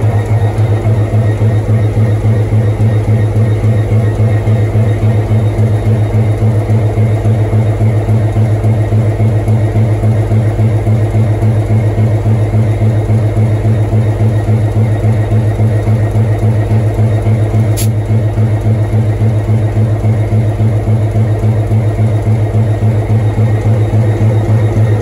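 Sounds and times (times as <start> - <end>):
diesel locomotive idling: 0.0 - 25.0.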